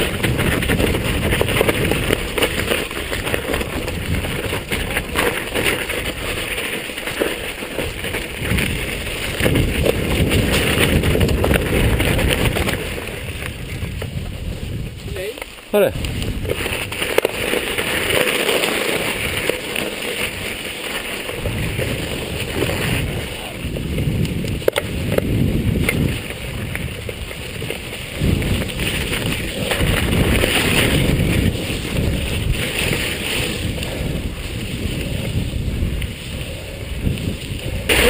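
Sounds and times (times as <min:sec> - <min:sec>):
wind on microphone: 0:00.0 - 0:06.5, 0:07.7 - 0:20.6, 0:21.2 - 0:38.0
bike rattling over bumps: 0:00.0 - 0:38.0
bike tyres on gravel: 0:00.0 - 0:38.0.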